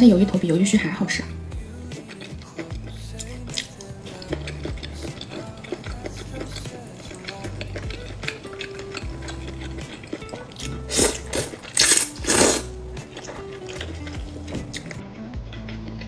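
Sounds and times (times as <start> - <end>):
utensils clicking against a bowl: 0.0 - 15.0
soft background music: 0.0 - 16.0
loud slurps: 0.2 - 15.0.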